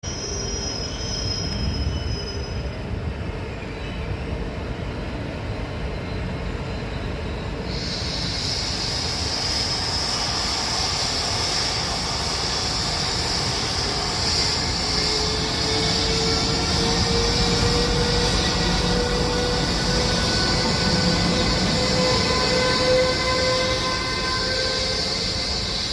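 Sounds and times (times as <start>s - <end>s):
high-pitched wheel squeal: 0.0s - 2.8s, 6.0s - 25.9s
train rumbling past: 0.0s - 25.9s.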